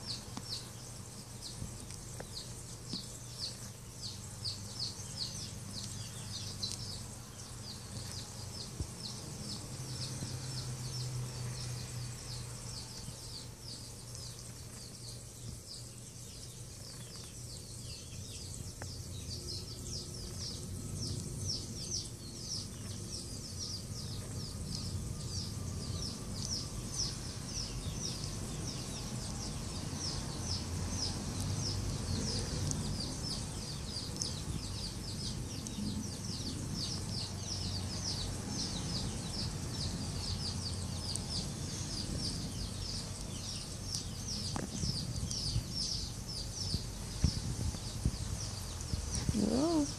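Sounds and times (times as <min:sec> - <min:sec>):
low steady hum: 0:00.0 - 0:49.9
small birds chirping: 0:00.0 - 0:49.9.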